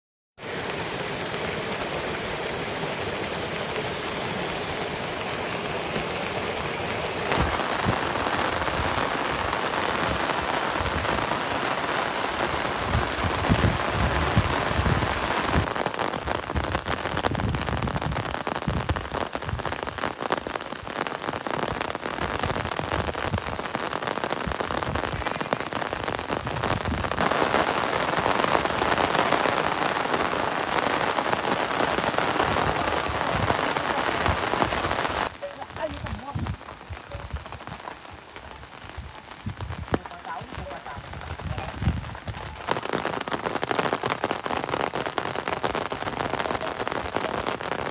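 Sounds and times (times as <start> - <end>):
heavy rain falling: 0.4 - 47.9.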